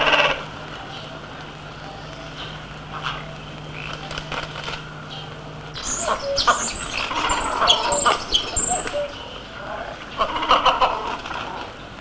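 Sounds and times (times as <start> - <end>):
birds chirping and calling: 0.0 - 12.0
steady low hum: 0.0 - 12.0.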